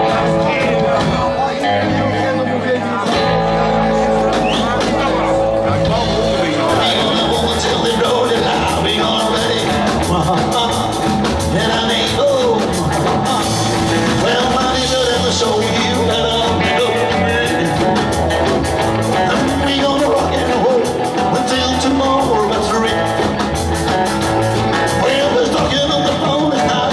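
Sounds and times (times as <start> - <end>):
live rock band playing: 0.0 - 26.9.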